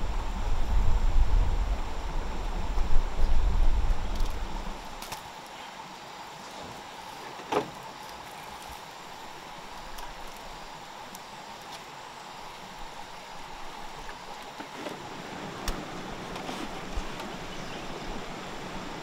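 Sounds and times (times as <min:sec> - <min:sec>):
campfire embers crackling: 0:00.0 - 0:19.0
flowing stream: 0:00.0 - 0:19.0.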